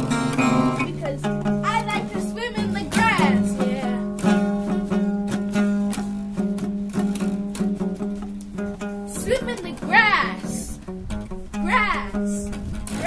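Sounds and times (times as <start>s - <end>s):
guitar notes plucked: 0.0s - 13.0s.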